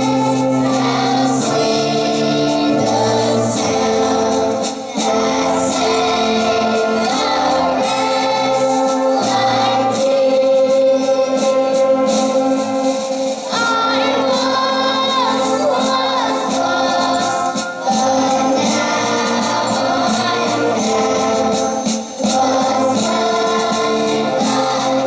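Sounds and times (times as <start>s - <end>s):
choir singing: 0.0s - 25.0s
instrumental accompaniment: 0.0s - 25.0s.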